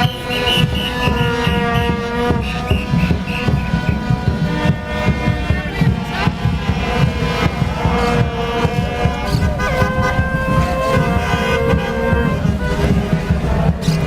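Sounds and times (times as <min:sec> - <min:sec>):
horns holding steady notes: 0:00.0 - 0:14.0
thumping low rumble: 0:00.5 - 0:14.0.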